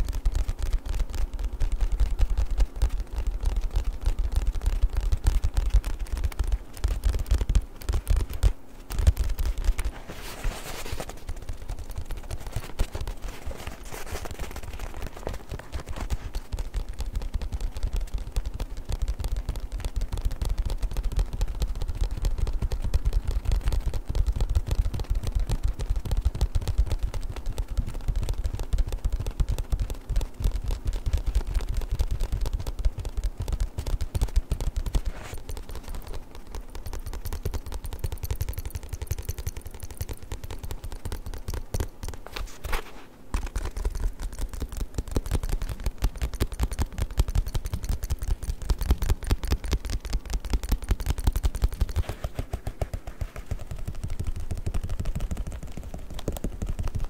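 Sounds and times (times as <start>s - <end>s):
fast tapping on a book: 0.0s - 57.0s.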